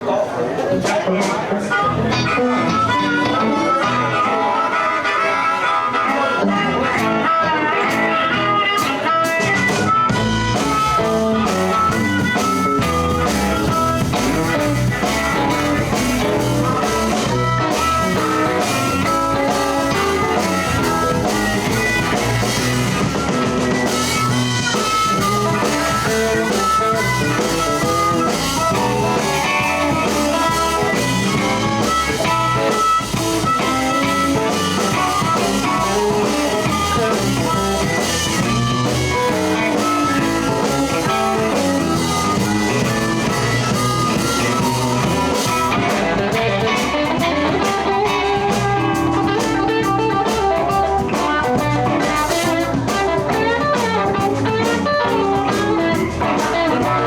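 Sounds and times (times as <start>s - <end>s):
bass guitar: 0.0s - 57.0s
electric guitar: 0.0s - 57.0s
drum kit: 0.4s - 57.0s.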